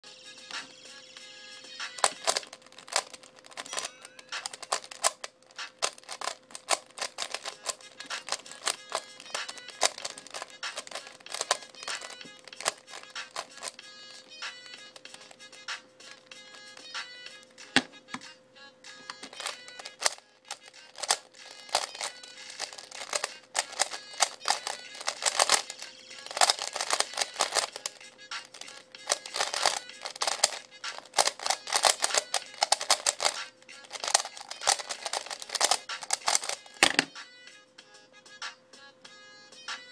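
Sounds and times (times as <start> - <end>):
faint background music: 0.0 - 39.9
puzzle cube plastic clicks: 1.9 - 15.4, 16.1 - 17.0, 19.1 - 37.1.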